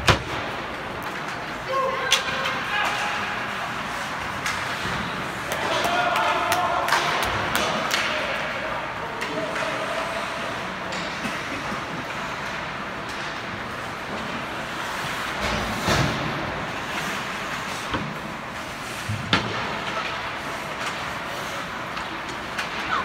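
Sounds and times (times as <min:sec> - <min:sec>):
skates and game noise: 0:00.0 - 0:23.0.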